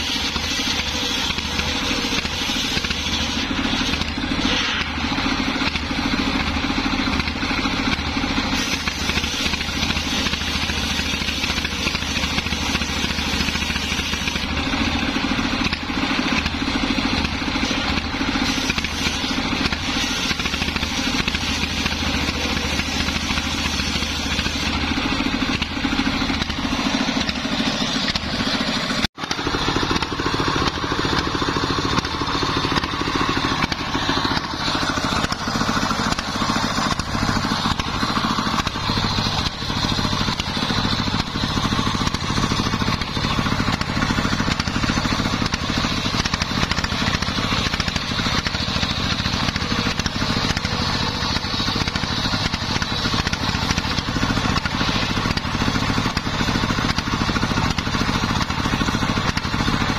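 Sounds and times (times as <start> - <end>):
circular saw ripping a board: 0.0 - 58.0
stationary engine running: 0.0 - 59.9.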